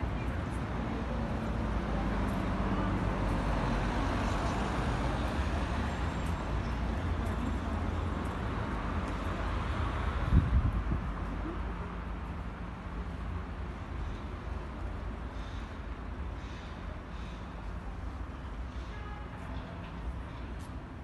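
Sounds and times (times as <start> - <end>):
low rumble of passing vehicles: 0.0 - 21.0.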